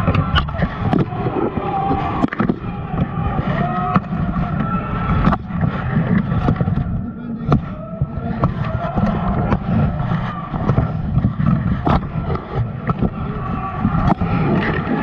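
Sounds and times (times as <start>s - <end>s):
muffled body movement rumble: 0.0s - 15.0s.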